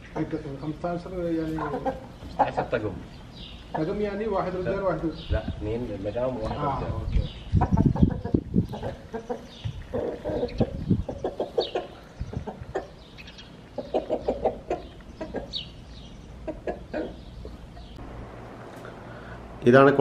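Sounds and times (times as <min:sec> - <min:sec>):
chickens clucking: 0:00.0 - 0:04.8, 0:06.4 - 0:18.0.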